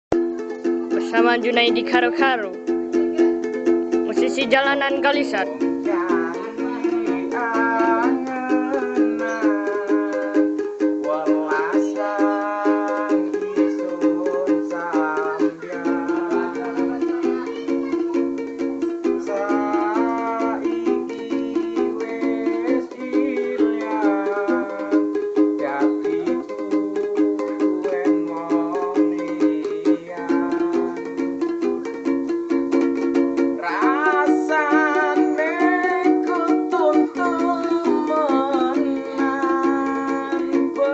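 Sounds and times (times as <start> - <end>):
person singing: 0.1 - 40.9
strummed ukulele: 0.1 - 40.9.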